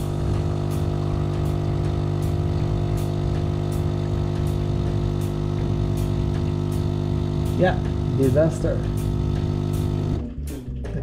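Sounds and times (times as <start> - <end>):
espresso machine pump humming: 0.0 - 10.2.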